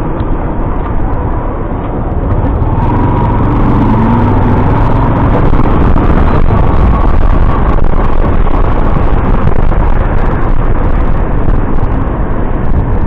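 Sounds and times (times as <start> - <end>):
wind on microphone: 0.0 - 13.0
motorcycle engine running: 0.8 - 13.0.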